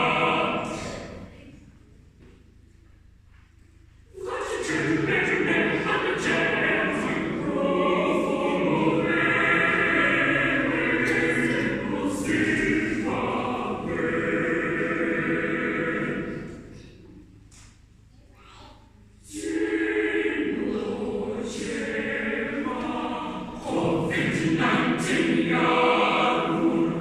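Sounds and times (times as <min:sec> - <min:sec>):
girls' choir singing unaccompanied: 0:00.0 - 0:02.3, 0:04.0 - 0:17.9, 0:19.0 - 0:27.0.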